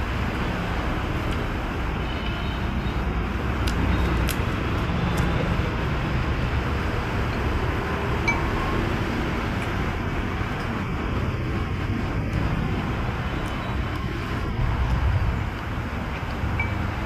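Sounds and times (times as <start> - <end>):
electric fans: 0.0 - 17.0
street traffic: 0.0 - 17.0.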